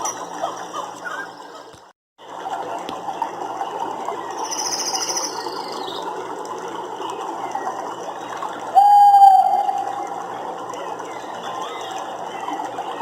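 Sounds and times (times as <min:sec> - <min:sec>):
steady chorus of animals: 0:00.0 - 0:13.0.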